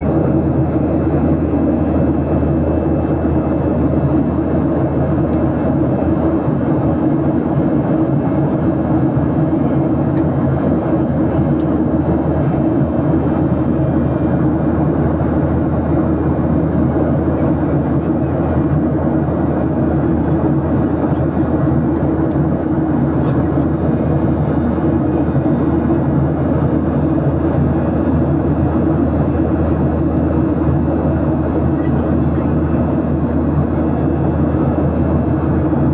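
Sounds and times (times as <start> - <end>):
airplane engine drone: 0.0 - 35.9.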